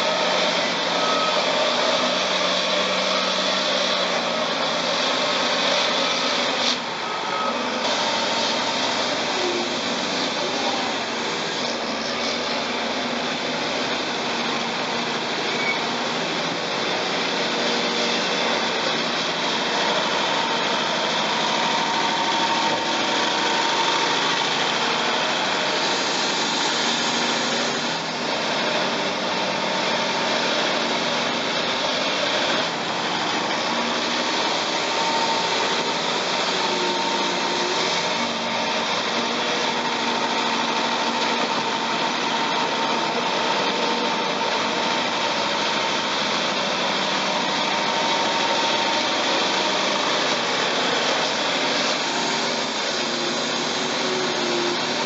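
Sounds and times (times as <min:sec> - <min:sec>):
bulldozer blade pushing mud: 0:00.0 - 0:55.0
diesel engines droning: 0:00.0 - 0:55.0
high engine whine: 0:00.0 - 0:55.0.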